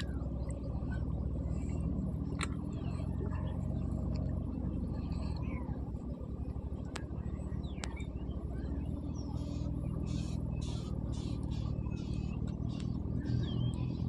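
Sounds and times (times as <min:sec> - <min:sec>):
birds chirping faintly: 0:00.0 - 0:14.0
low engine drone: 0:00.0 - 0:14.0.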